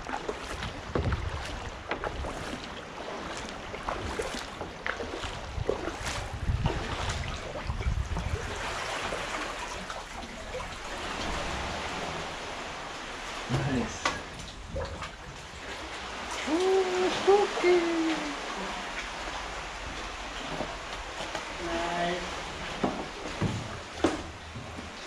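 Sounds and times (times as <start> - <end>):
paddle drips and splashes: 0.0 - 25.0
water lapping around a kayak: 0.0 - 25.0.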